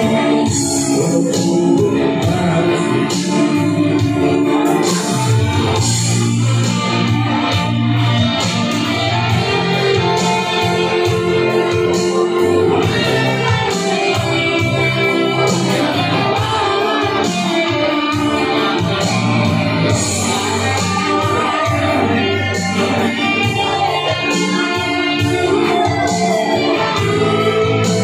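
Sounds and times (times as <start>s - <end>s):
man singing into a microphone: 0.0s - 6.6s, 10.6s - 28.0s
backing track with guitar: 0.0s - 28.0s.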